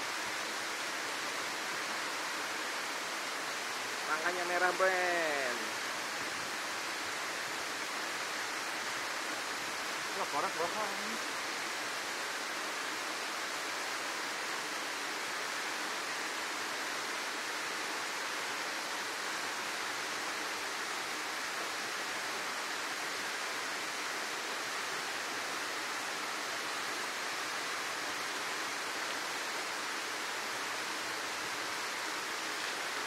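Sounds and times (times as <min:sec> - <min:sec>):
waterfall pouring into pool: 0:00.0 - 0:33.0.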